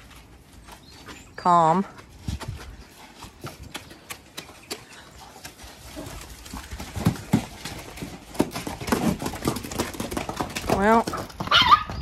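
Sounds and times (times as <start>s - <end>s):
horse hooves on straw: 0.0s - 12.0s.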